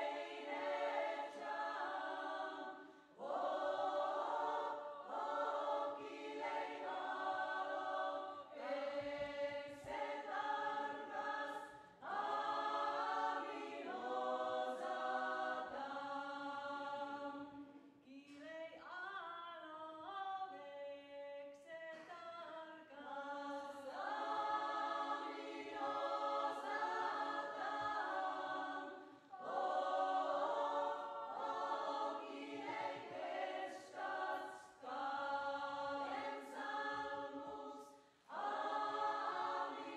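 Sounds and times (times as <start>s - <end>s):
women's choir singing a cappella: 0.0s - 39.9s.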